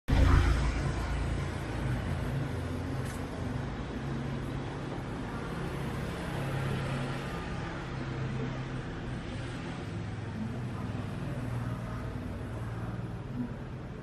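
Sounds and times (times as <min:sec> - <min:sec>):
street traffic rumble: 0:00.1 - 0:14.0.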